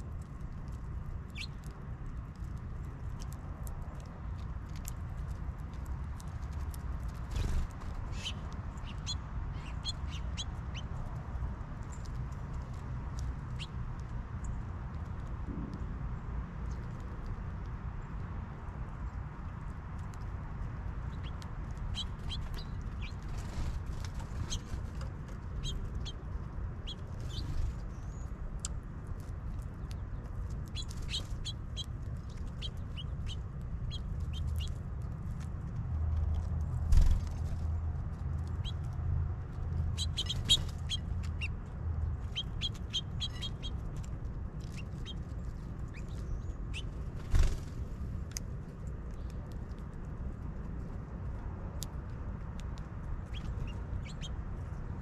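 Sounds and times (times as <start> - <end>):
small songbirds chirping: 0.0 - 35.6, 36.2 - 55.0
low steady rumble: 0.0 - 55.0.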